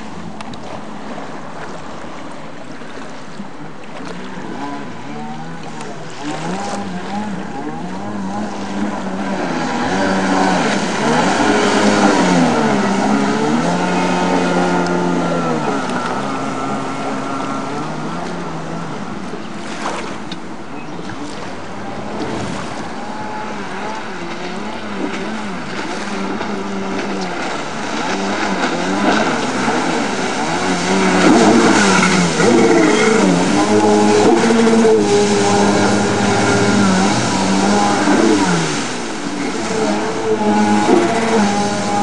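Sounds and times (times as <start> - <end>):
watercraft engine revving: 0.0 - 42.0.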